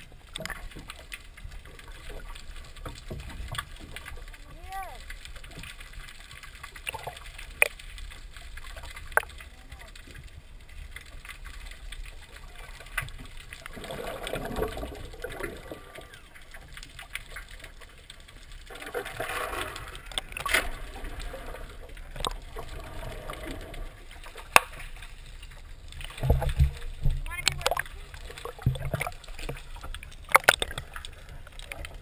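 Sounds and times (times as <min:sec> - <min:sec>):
muffled hazy underwater sound: 0:00.0 - 0:32.0
underwater clicks and knocks: 0:00.0 - 0:32.0
underwater rumble: 0:00.0 - 0:32.0.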